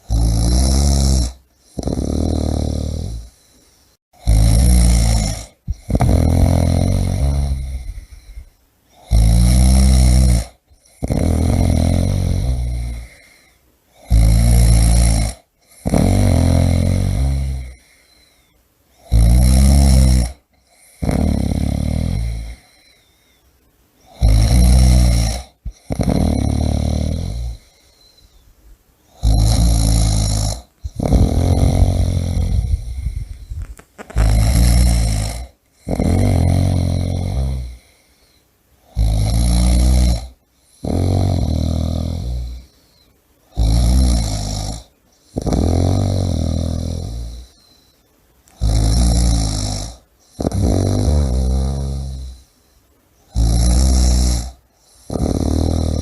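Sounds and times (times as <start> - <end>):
person snoring: 0.0 - 23.4, 24.0 - 28.4, 29.1 - 47.9, 48.5 - 52.6, 53.3 - 56.0.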